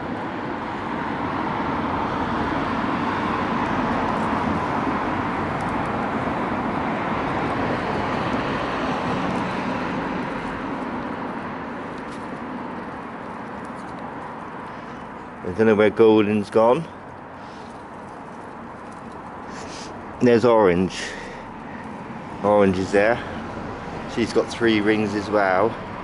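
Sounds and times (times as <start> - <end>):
passing vehicle engine and tyres: 0.0 - 26.0.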